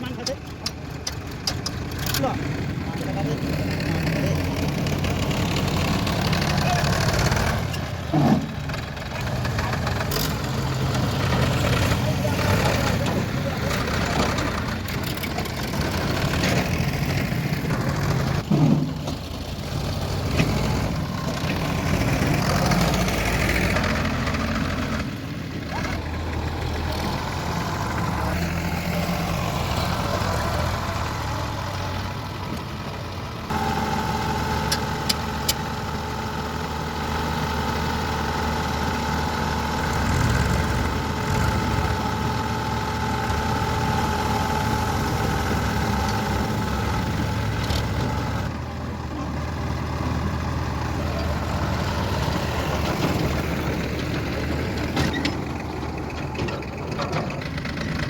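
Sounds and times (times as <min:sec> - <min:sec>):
diesel engines working: 0:00.0 - 0:58.0.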